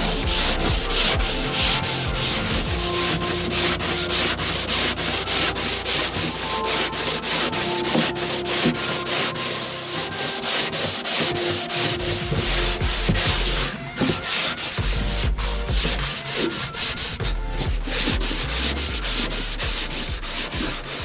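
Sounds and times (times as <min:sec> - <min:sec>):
sandpaper scraping fiberglass: 0:00.0 - 0:21.0.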